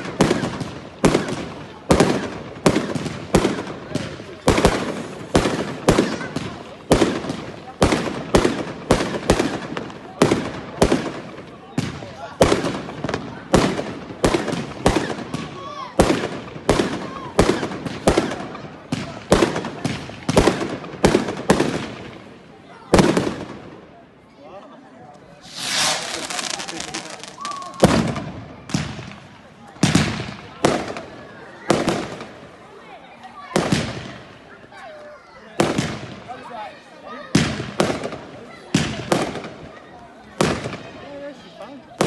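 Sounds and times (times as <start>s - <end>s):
fireworks bangs: 0.0s - 23.9s, 25.3s - 32.6s, 33.5s - 34.5s, 35.6s - 36.5s, 37.3s - 39.8s, 40.4s - 41.3s.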